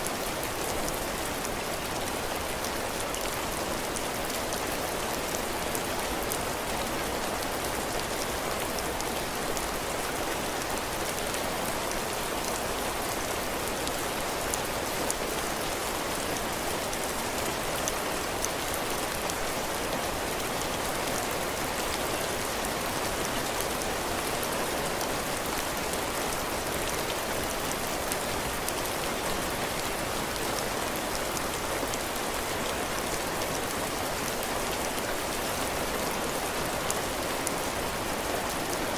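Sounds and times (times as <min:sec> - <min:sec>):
heavy rain pattering on roof: 0:00.0 - 0:38.9.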